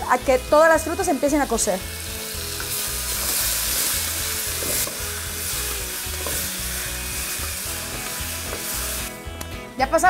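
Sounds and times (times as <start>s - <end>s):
fruit sizzling in lard: 0.0s - 9.3s.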